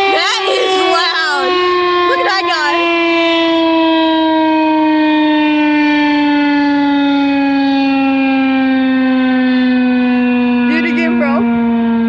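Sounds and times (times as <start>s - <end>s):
warning siren falling in pitch: 0.0s - 12.0s.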